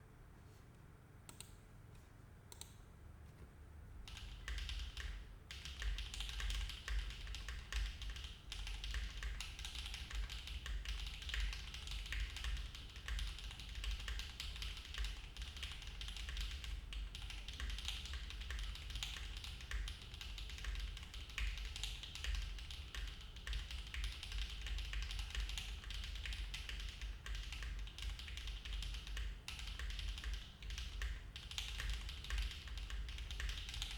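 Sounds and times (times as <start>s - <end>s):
typing on mechanical keyboard: 4.1s - 33.9s.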